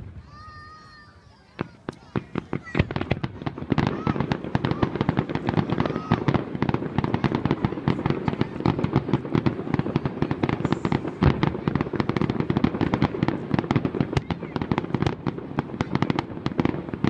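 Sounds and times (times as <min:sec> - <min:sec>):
fireworks pops and crackles: 0:00.0 - 0:17.0
fireworks rumble: 0:00.0 - 0:17.0
heavy firework boom: 0:01.6 - 0:17.0.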